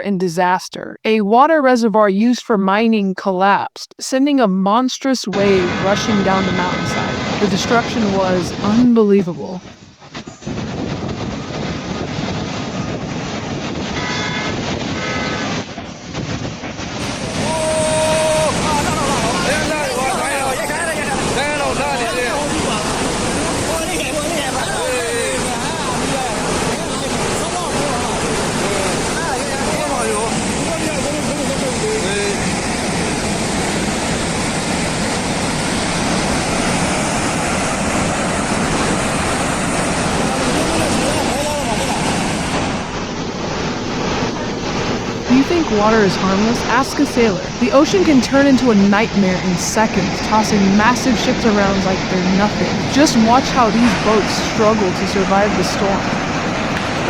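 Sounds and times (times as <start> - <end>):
rushing water and mud roar: 10.5 - 57.0.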